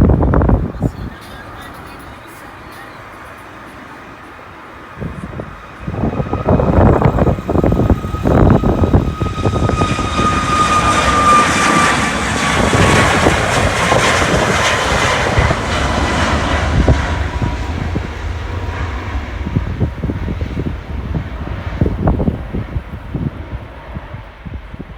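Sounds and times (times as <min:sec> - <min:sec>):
jet airliner taking off: 0:00.0 - 0:24.9
wind buffeting microphone: 0:00.0 - 0:24.9.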